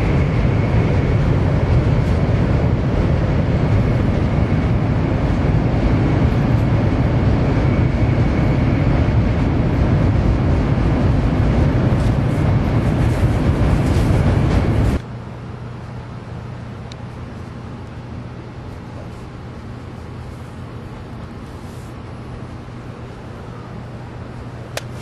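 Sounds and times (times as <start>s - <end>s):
train rumble inside passenger car: 0.0s - 25.0s.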